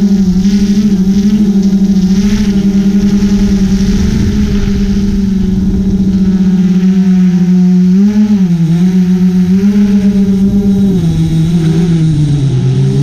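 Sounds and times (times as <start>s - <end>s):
drone propellers humming: 0.0s - 13.0s.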